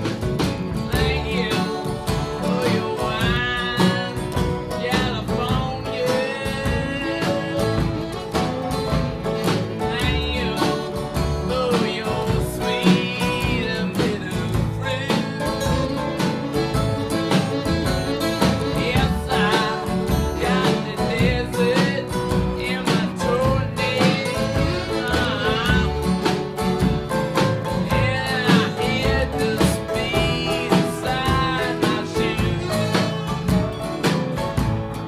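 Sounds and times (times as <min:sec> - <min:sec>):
country song with guitar and singing: 0:00.0 - 0:35.0.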